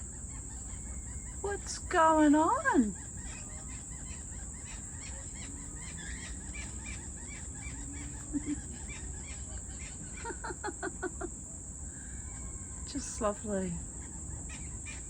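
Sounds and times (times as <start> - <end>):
birds chirping: 0.0 - 15.0
high insect drone: 0.0 - 15.0
loud bird calls: 0.0 - 15.0.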